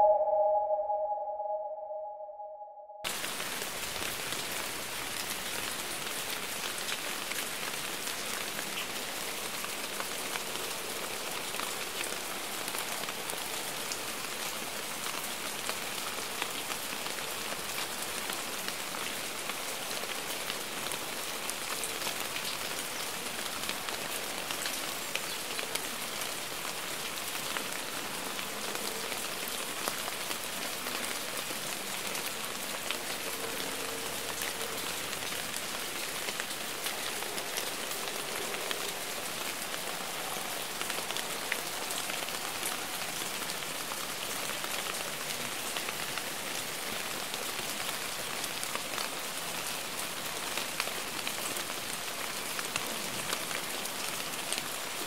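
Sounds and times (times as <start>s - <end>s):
steady rain: 3.1s - 55.0s.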